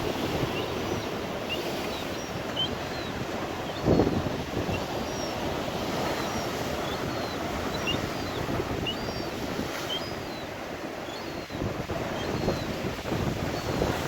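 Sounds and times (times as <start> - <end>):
rough sea surf: 0.0 - 14.0
wind on microphone: 0.0 - 14.0.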